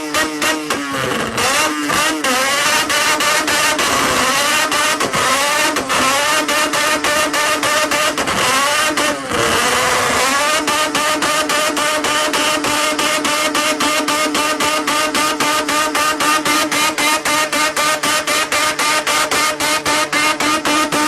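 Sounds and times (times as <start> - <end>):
car engine revving hard: 0.0 - 21.0
exhaust cracks: 0.0 - 21.0.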